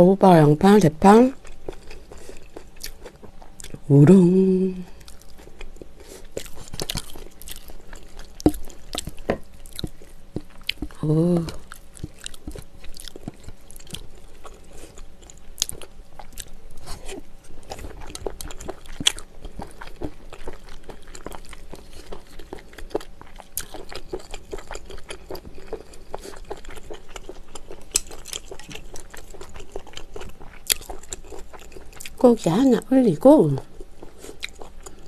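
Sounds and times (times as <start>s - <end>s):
person chewing food: 1.3s - 3.9s, 4.9s - 32.2s, 33.6s - 35.0s.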